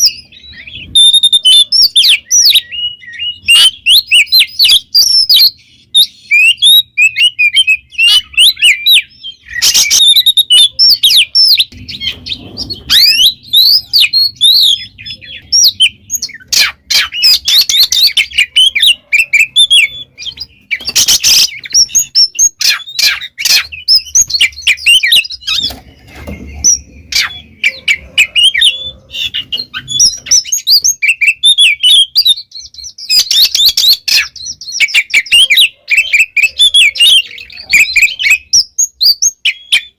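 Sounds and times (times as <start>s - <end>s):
bird singing whistles and chirps: 0.0s - 39.9s.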